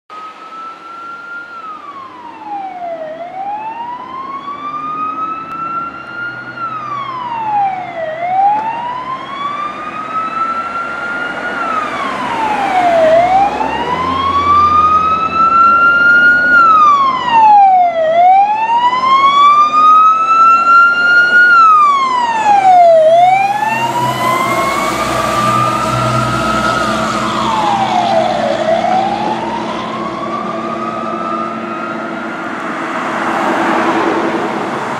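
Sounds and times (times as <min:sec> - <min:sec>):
engine and road noise: 0:00.1 - 0:34.9
fire truck siren wailing: 0:00.1 - 0:34.9.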